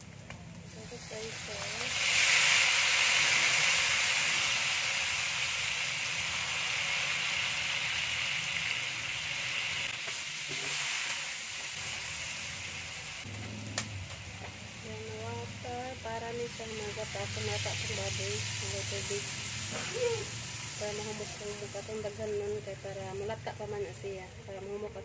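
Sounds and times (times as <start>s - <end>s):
meat frying in hot oil: 0.0s - 24.0s.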